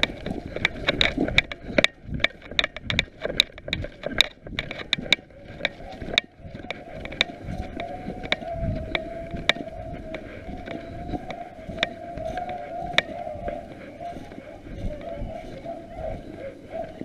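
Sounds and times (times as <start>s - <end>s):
low rumbling noise: 0.0s - 17.0s
sharp clicks and crackles: 0.0s - 17.0s.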